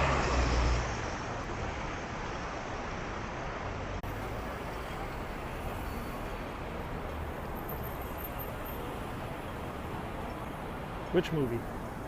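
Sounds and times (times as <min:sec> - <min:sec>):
passing traffic hum: 0:00.0 - 0:12.0.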